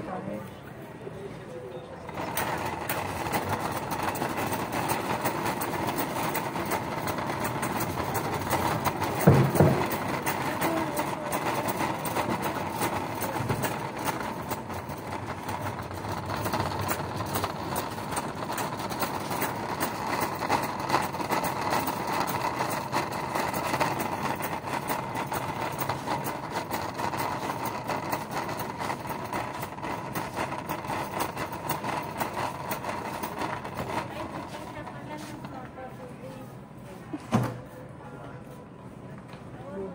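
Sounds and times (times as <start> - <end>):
ventilation hum: 0.0 - 39.9
shopping cart rattling on concrete: 2.1 - 35.9.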